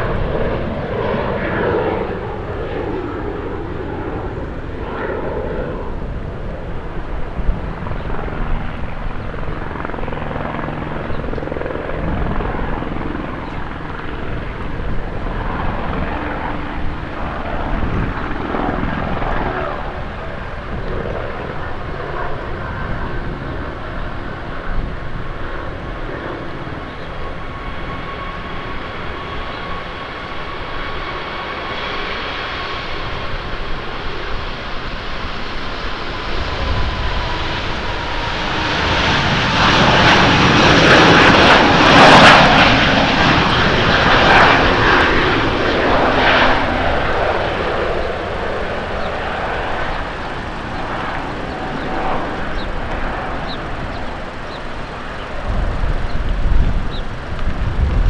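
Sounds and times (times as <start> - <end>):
jet engines roaring at takeoff: 0.0 - 58.0
steady engine whine: 0.0 - 58.0.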